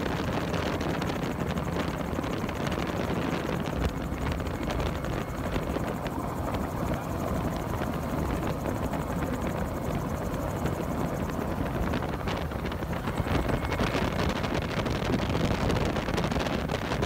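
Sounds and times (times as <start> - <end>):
aircraft engine and rotor noise: 0.0 - 17.0.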